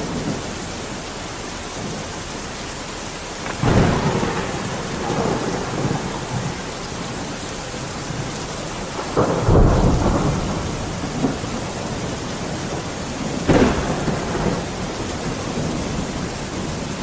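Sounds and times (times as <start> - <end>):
heavy rain hissing: 0.0 - 17.0
thunder rumbling: 3.2 - 17.0.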